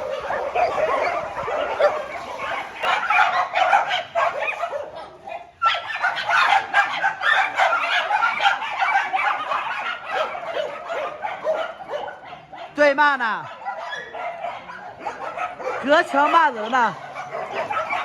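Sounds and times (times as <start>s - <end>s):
many dogs barking: 0.0s - 18.0s.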